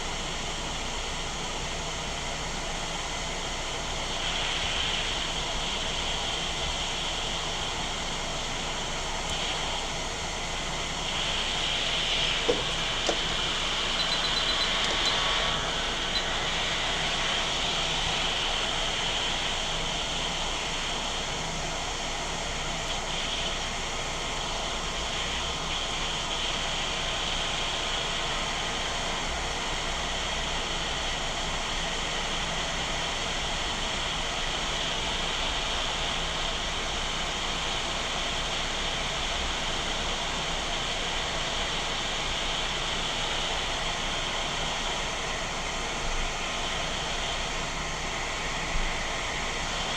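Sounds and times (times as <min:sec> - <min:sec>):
hot air station hissing: 0:00.0 - 0:49.9.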